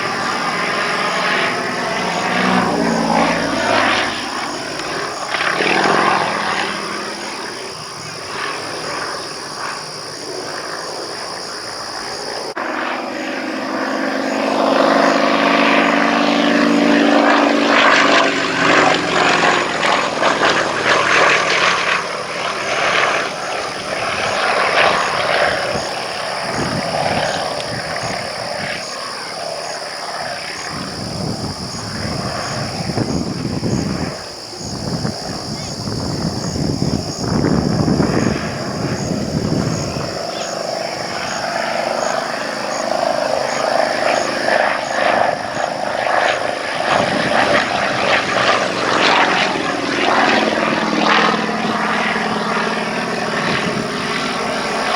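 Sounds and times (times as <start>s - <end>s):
propeller plane engine: 0.0s - 54.9s.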